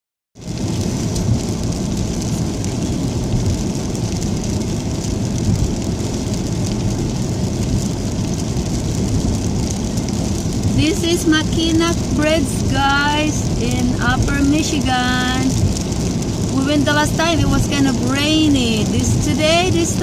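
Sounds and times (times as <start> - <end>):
rain hitting car: 0.4 - 20.0
tyre and road noise: 0.4 - 20.0.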